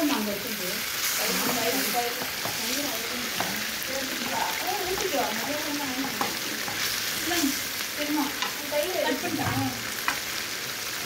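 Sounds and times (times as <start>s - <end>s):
chicken sizzling in a pot: 0.0s - 11.0s.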